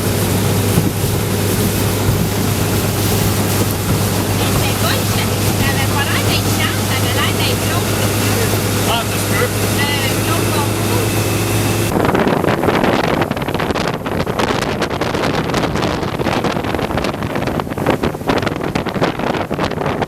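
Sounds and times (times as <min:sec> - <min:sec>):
low engine hum: 0:00.0 - 0:20.0
wind buffeting microphone: 0:00.0 - 0:20.0.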